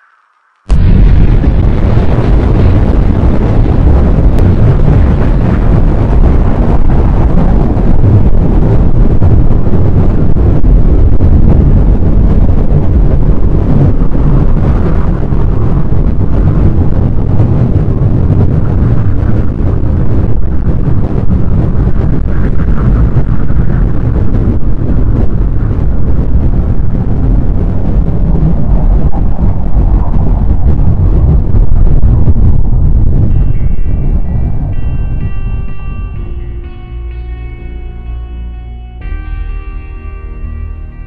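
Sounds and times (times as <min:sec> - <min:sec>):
loud rumbling roar: 0:00.7 - 0:36.4.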